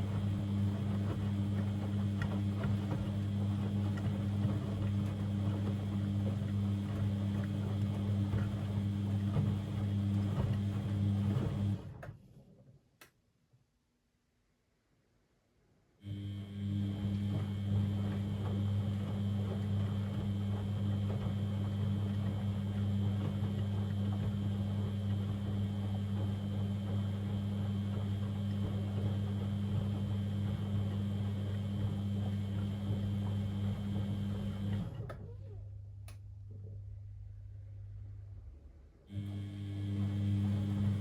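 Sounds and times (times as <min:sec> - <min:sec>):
washing machine humming: 0:00.0 - 0:12.1, 0:16.0 - 0:41.0.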